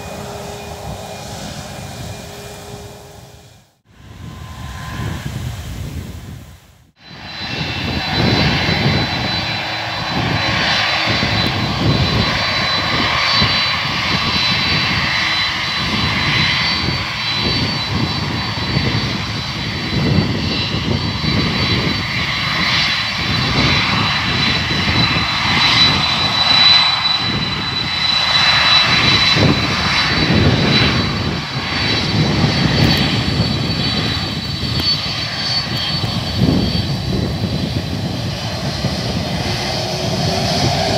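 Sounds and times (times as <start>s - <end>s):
high engine whine: 0.0s - 40.9s
jet engines rumbling: 0.0s - 40.9s.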